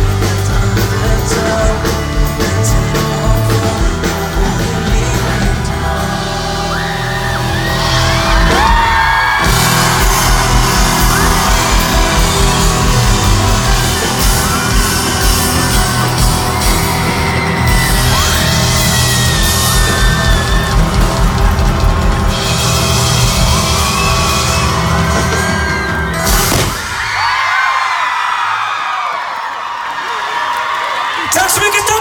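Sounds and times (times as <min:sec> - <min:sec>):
live pop music: 0:00.0 - 0:27.5, 0:31.2 - 0:32.0
crowd yelling and cheering: 0:00.0 - 0:32.0.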